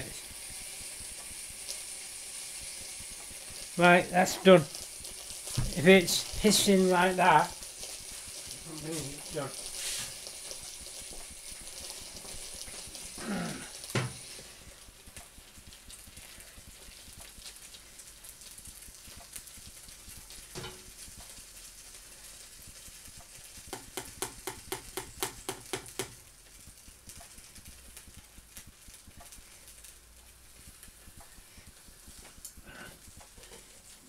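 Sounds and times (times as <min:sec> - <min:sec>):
electric cooker hissing: 0:00.0 - 0:34.0.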